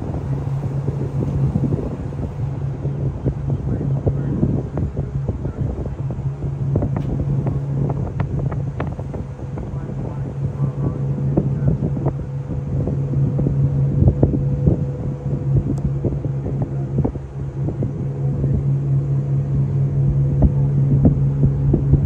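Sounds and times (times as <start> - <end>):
boat engines droning: 0.0 - 22.0
wind buffeting microphone: 0.0 - 22.0.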